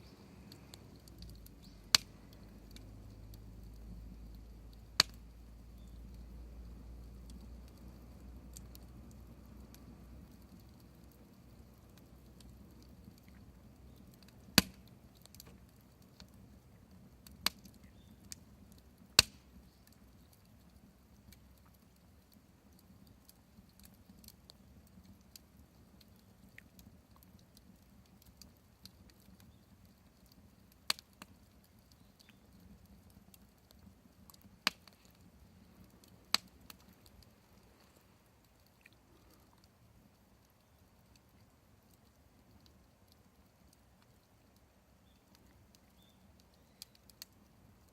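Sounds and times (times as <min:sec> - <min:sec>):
wood popping: 0:00.0 - 0:06.3, 0:07.2 - 0:22.0, 0:23.2 - 0:47.9
wood fire burning: 0:00.0 - 0:47.9.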